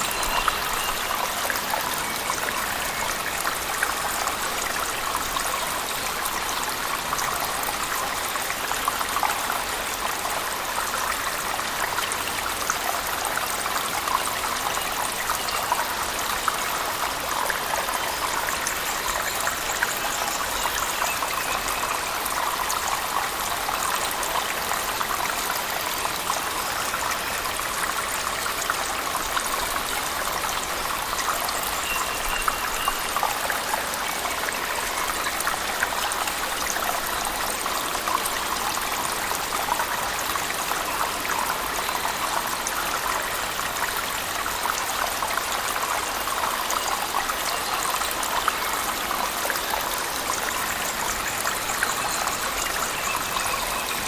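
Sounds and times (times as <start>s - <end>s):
waterfall in a cave: 0.0s - 54.0s.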